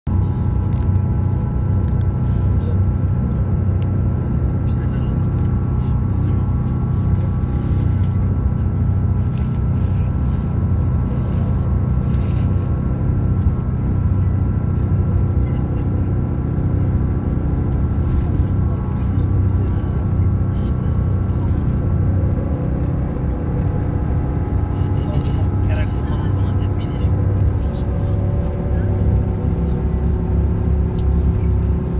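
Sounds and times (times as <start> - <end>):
vehicle engine and road rumble: 0.0 - 31.9.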